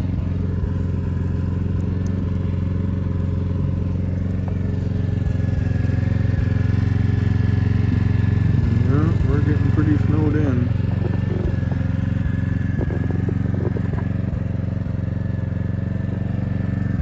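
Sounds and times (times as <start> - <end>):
generator engine droning: 0.0 - 17.0.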